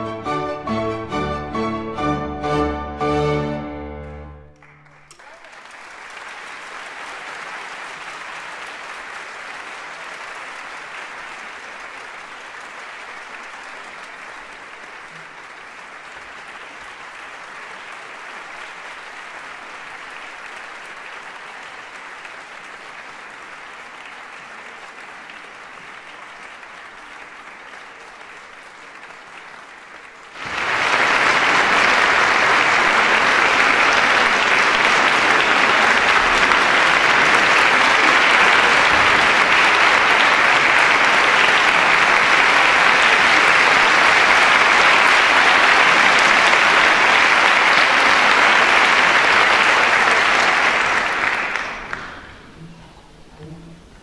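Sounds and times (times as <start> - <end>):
audience applauding: 3.4 - 53.6.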